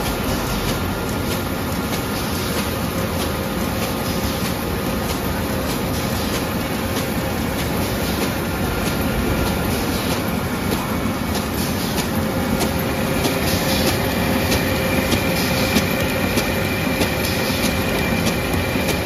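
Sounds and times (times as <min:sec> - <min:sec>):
constant machine whine: 0:00.0 - 0:19.0
rapid repeated clicks: 0:00.0 - 0:19.0.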